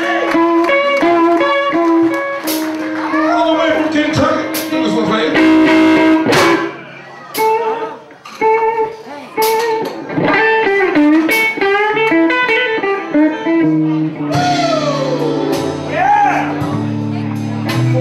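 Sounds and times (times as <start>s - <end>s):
blues band playing: 0.0s - 18.0s
electric guitar lead: 0.0s - 18.0s.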